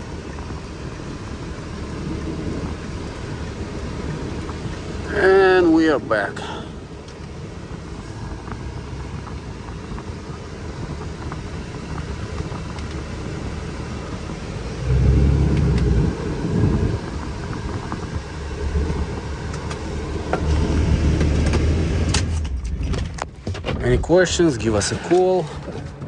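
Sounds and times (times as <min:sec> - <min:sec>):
diesel engine low rumble: 0:00.0 - 0:26.0.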